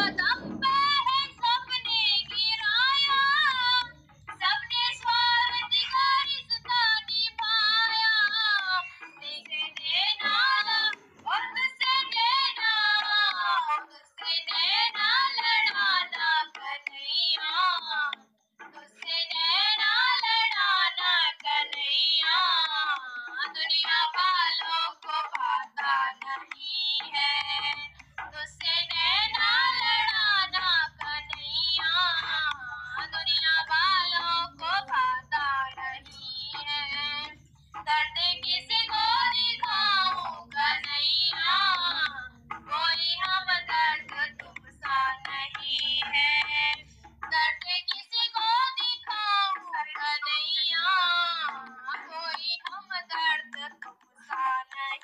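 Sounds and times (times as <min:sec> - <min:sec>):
high-pitched voice singing: 0:00.0 - 0:55.0.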